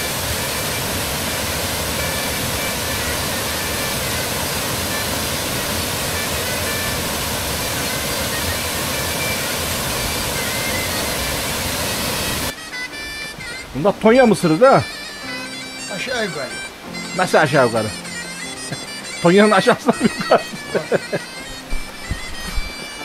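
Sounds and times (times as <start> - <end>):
waterfall rushing into pool: 0.0 - 23.0.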